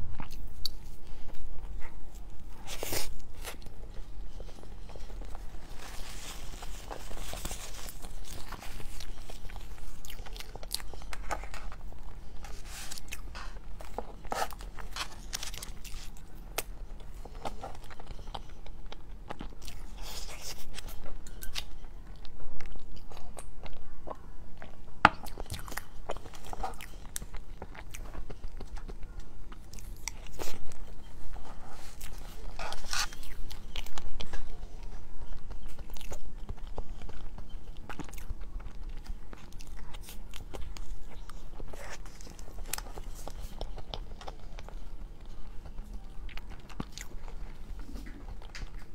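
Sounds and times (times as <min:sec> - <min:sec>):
close chewing and mouth sounds: 0:00.0 - 0:48.9.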